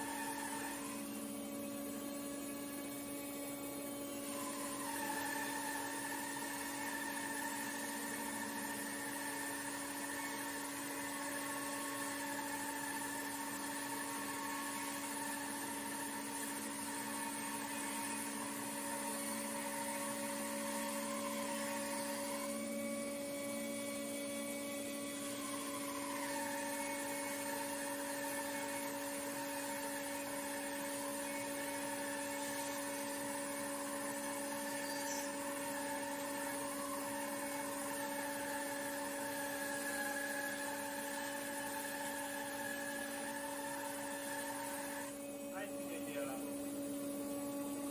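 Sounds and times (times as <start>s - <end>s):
bandsaw motor hum: 0.0s - 47.9s
saw blade whining in wood: 0.0s - 47.9s.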